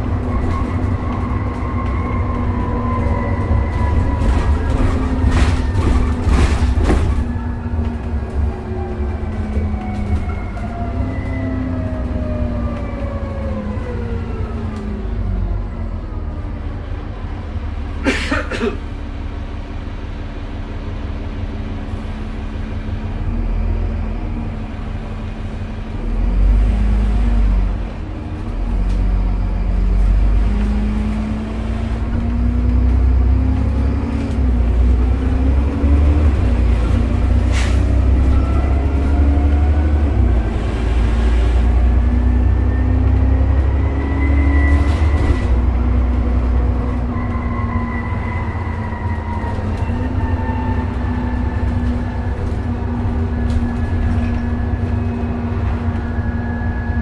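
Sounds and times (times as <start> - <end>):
bus axle whine: 0.0 - 57.0
bus diesel engine rumble: 0.0 - 57.0.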